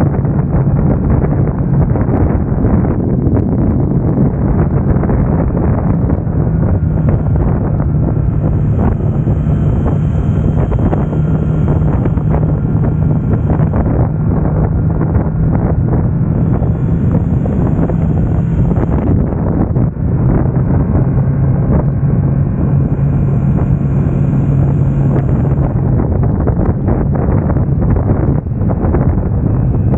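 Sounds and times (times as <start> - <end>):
motorcycle engine running: 0.0 - 29.9
wind noise on microphone: 0.0 - 29.9.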